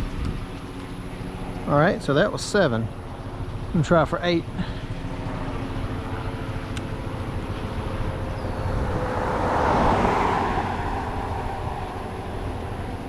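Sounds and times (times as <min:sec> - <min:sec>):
low traffic rumble: 0:00.0 - 0:13.0
vehicle passing: 0:01.0 - 0:13.0.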